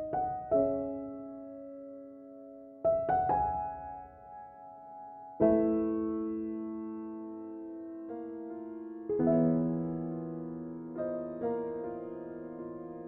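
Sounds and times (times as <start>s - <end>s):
slow soft piano chords: 0.0s - 13.0s.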